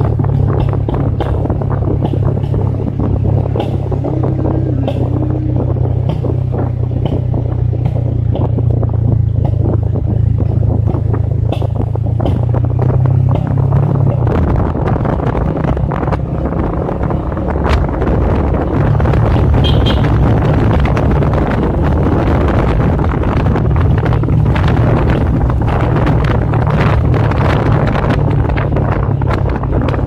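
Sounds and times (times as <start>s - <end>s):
motorcycle engine drone: 0.0s - 30.0s
wind buffeting microphone: 0.0s - 30.0s.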